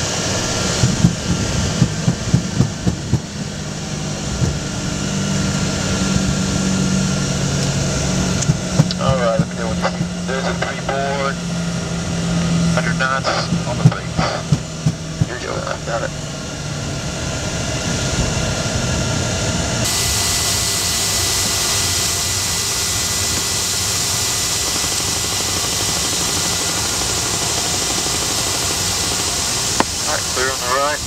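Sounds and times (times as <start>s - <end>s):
jet engines rushing and whining: 0.0s - 31.0s.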